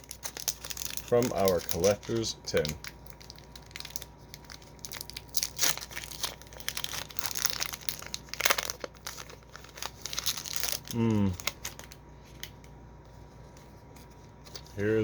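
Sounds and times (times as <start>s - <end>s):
foil wrapper crinkling: 0.0s - 12.7s.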